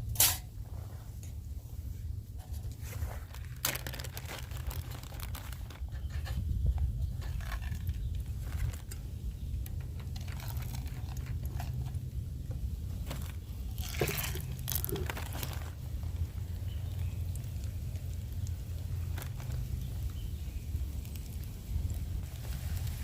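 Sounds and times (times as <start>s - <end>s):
steady low rumble: 0.0s - 23.0s
dumplings frying with crackles: 2.6s - 23.0s.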